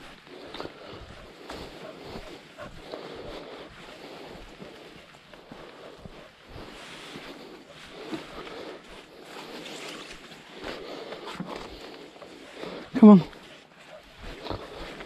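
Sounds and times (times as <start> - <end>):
footsteps through vegetation: 0.0 - 15.0
leaves rustling: 0.0 - 15.0.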